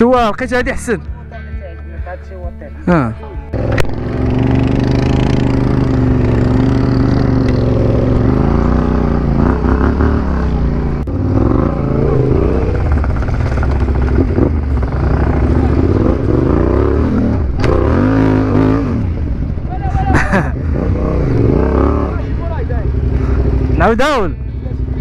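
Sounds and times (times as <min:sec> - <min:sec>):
motorcycle engine revving: 0:03.4 - 0:25.0.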